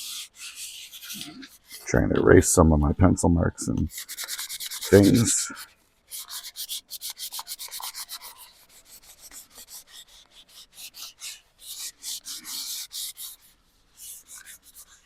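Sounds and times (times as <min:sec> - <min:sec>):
eraser rubbing on gourd shell: 0:00.0 - 0:02.4, 0:03.9 - 0:15.0.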